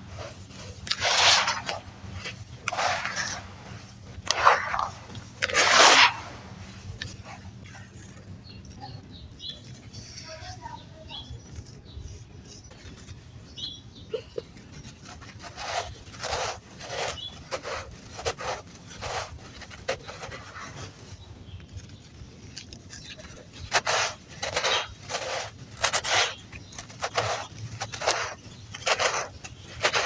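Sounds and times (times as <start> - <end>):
sand crunching: 0.0 - 10.6, 11.2 - 30.0.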